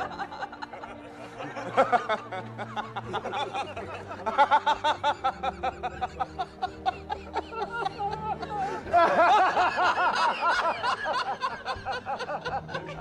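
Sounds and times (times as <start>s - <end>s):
men laughing: 0.0s - 13.0s.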